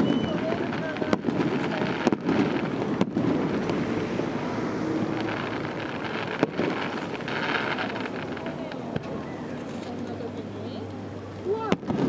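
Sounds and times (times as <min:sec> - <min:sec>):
fireworks exploding: 0:00.0 - 0:12.0
rushing background noise: 0:00.0 - 0:12.0.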